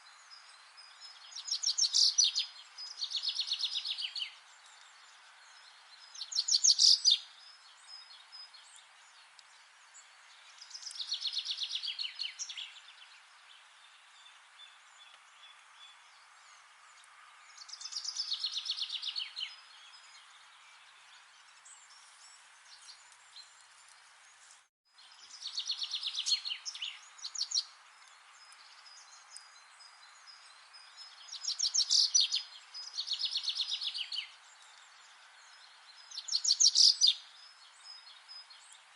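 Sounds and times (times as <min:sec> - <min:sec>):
soft forest ambience hiss: 0:00.0 - 0:38.9.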